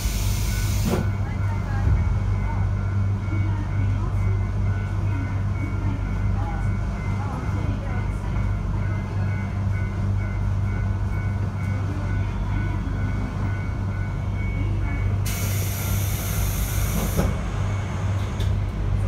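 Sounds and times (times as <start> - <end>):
train rumble and hum: 0.0 - 19.0.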